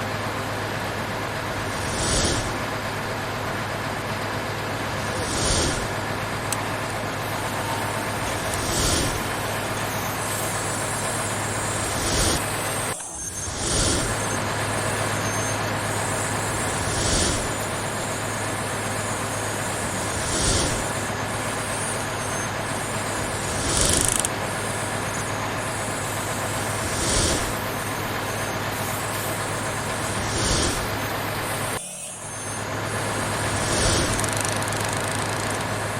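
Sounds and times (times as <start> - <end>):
heavy vehicle engine drone: 0.0 - 35.9.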